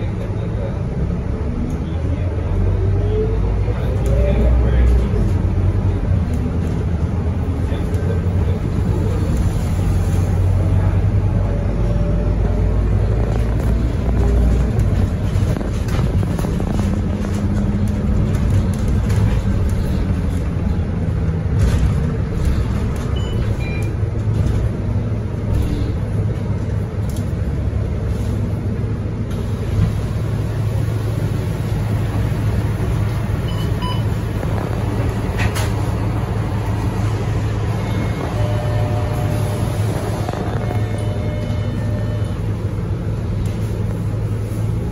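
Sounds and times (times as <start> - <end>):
bus diesel engine running: 0.0 - 44.9
bus interior rattles: 0.0 - 44.9
road noise: 0.0 - 44.9.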